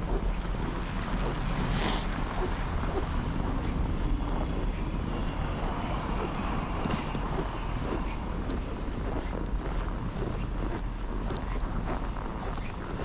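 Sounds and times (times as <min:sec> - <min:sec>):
street traffic: 0:00.0 - 0:12.8
wind rumbling on microphone: 0:00.0 - 0:13.0.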